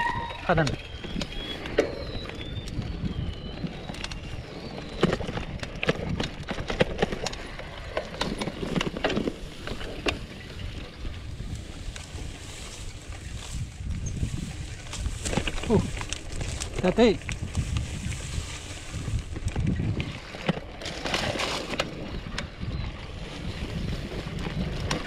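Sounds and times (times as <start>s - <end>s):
bike rattling over bumps: 0.0s - 25.0s
bike tyres rumbling on dirt: 0.0s - 25.0s.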